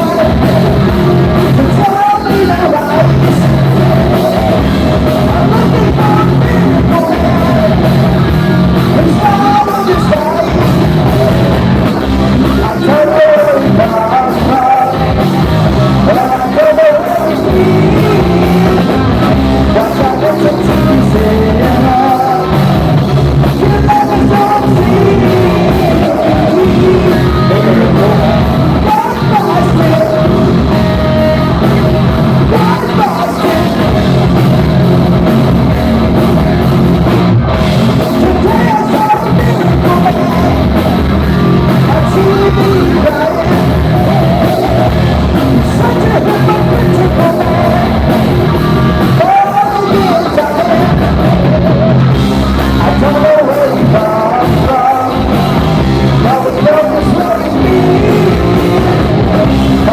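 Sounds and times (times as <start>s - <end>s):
man singing: 0.0s - 36.5s, 37.5s - 59.9s
heavy metal band playing: 0.0s - 59.9s.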